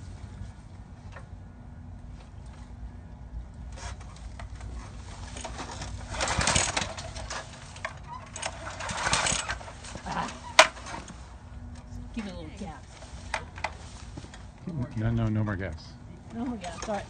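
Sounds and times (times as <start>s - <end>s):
engine turning over rasping: 2.1s - 15.7s, 16.3s - 17.0s.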